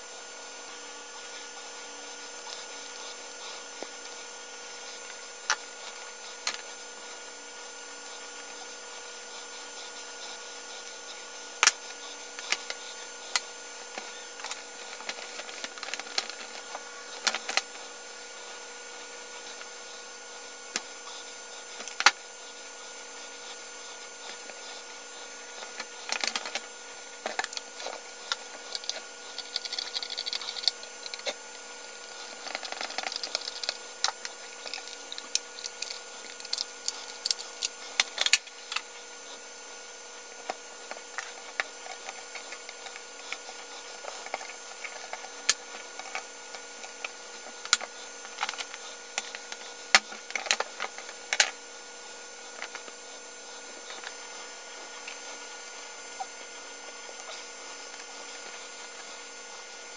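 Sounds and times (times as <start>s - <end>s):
background hum: 0.0s - 59.9s.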